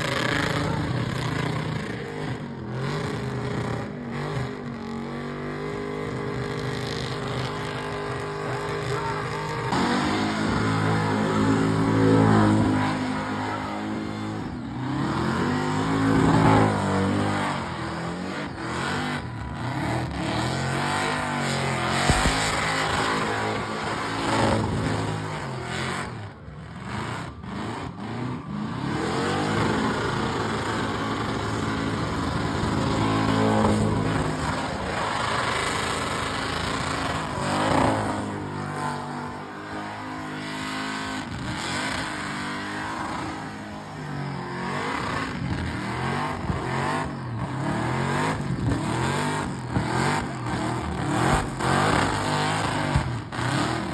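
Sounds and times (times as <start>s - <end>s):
car engine revving hard: 0.0s - 53.9s.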